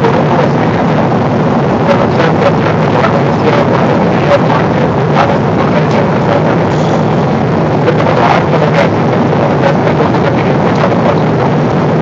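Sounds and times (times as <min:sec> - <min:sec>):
airliner cabin airflow and engines: 0:00.0 - 0:12.0.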